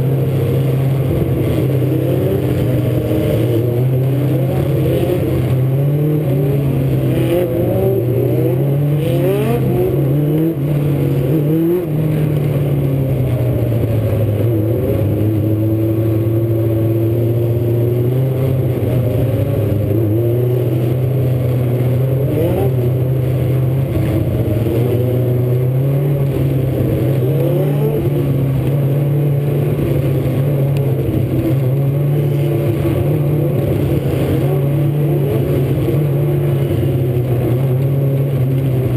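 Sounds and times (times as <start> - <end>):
race car engines passing: 0.0 - 38.9.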